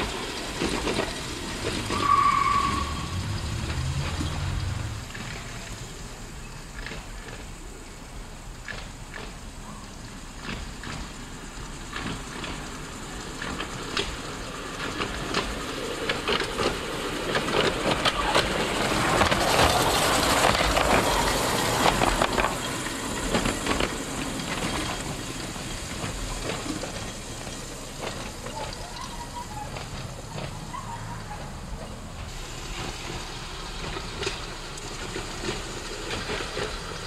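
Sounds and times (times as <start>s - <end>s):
model streetcar wheels rumbling: 0.0s - 37.0s.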